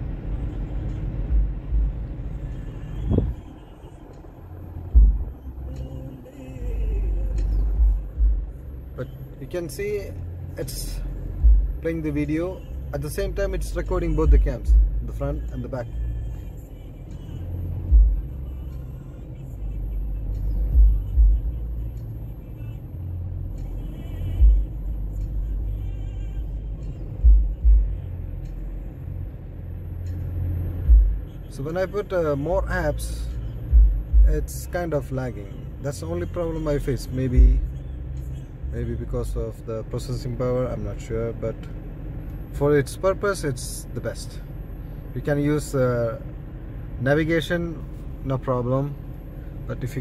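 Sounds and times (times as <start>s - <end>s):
car interior rumble: 0.0s - 50.0s
faint music: 0.0s - 50.0s.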